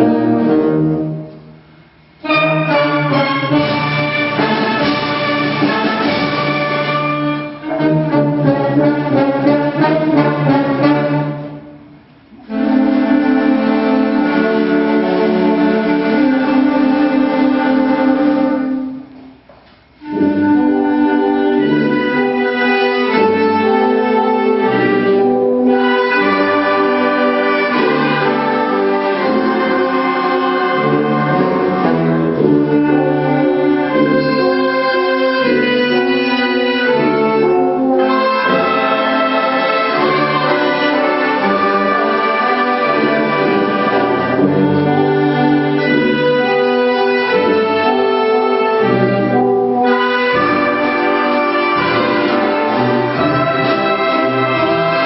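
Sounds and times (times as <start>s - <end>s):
wind band playing: 0.0s - 55.0s.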